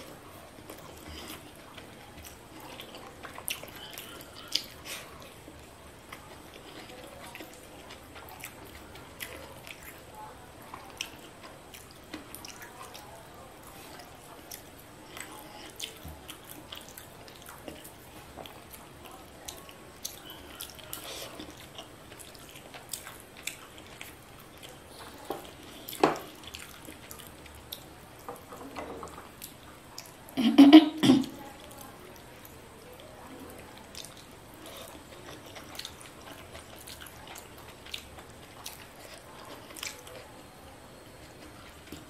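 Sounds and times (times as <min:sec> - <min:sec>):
chewing: 0:00.0 - 0:30.3, 0:31.3 - 0:42.0.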